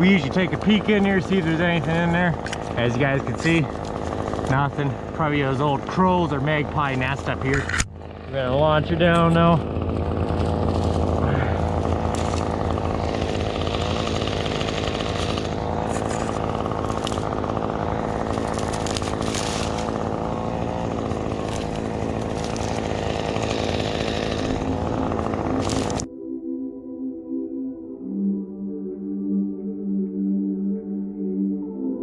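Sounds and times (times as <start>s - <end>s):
chainsaw cutting wood: 0.0s - 26.1s.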